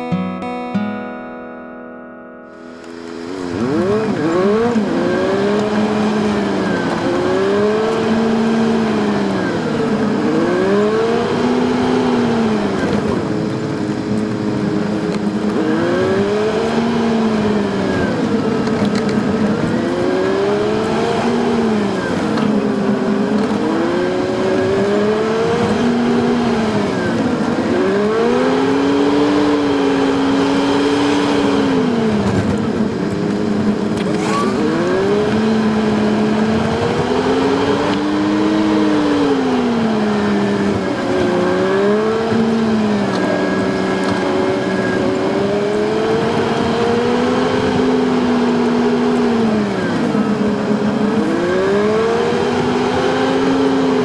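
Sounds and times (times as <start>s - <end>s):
sped-up engine revving: 2.5s - 54.0s.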